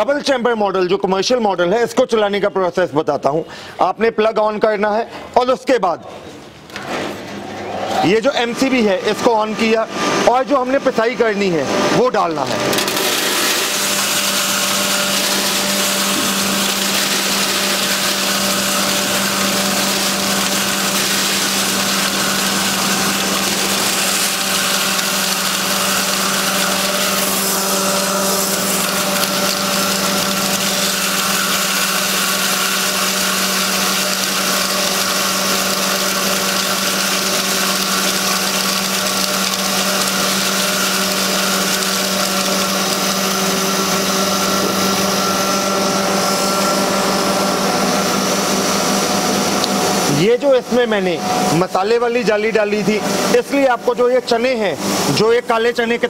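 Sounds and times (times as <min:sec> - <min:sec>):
grinding mill whirring: 0:06.2 - 0:56.0.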